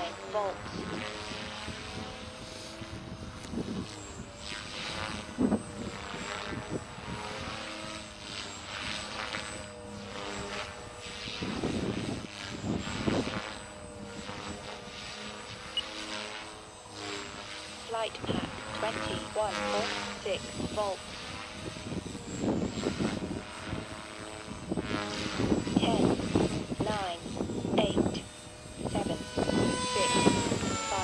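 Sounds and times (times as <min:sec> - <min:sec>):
rc helicopter rotor hum: 0:00.0 - 0:31.0.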